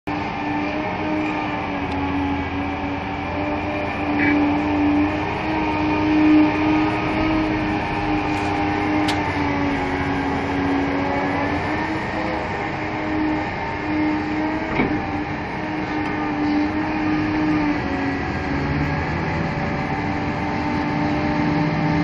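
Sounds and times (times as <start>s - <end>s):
heavy diesel engines droning: 0.0s - 22.0s.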